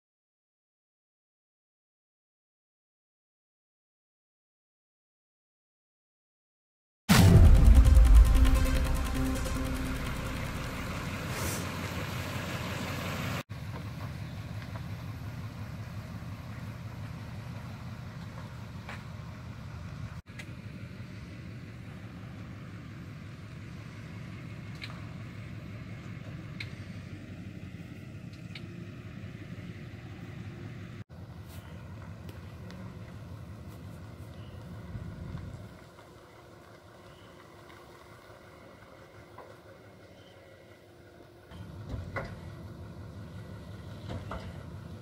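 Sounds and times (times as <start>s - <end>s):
truck engine running: 7.1s - 45.0s.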